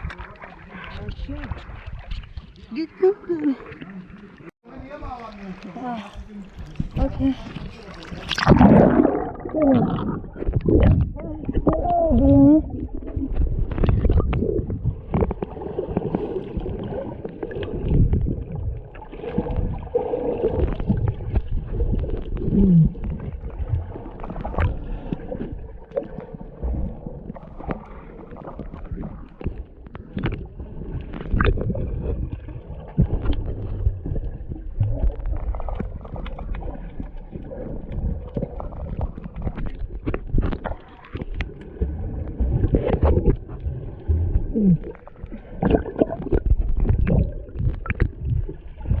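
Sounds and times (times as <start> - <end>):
muffled water rumbling and gurgling: 0.0 - 49.0
knocks and splashes: 6.6 - 49.0.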